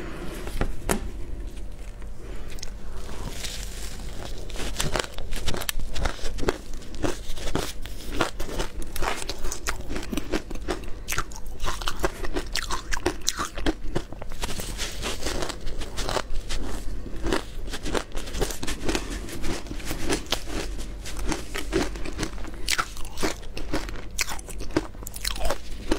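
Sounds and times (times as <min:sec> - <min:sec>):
ice crunching being chewed: 0:01.5 - 0:25.9.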